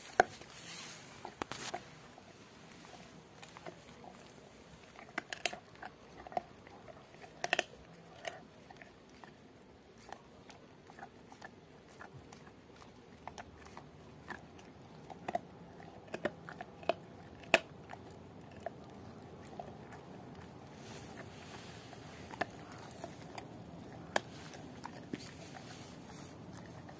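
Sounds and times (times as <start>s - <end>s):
dog crunching bone: 0.0s - 26.9s.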